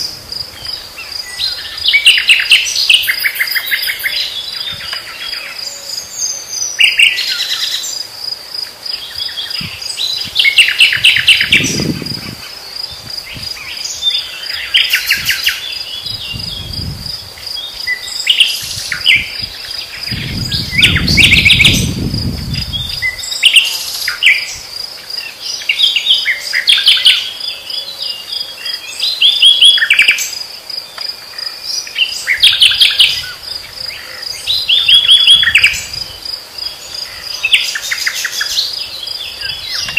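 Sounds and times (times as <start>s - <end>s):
crickets chirping: 0.0s - 39.9s
nightingales singing: 0.0s - 39.9s.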